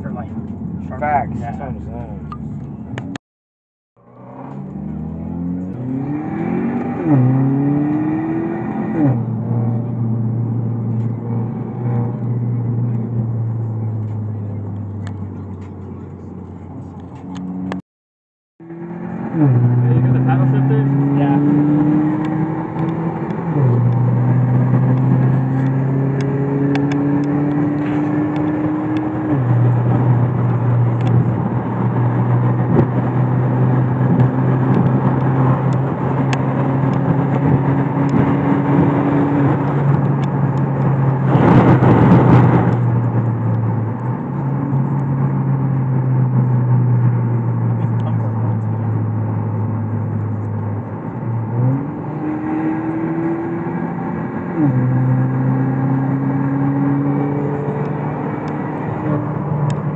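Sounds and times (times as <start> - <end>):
car engine droning inside cabin: 4.0 - 17.8, 18.9 - 59.9.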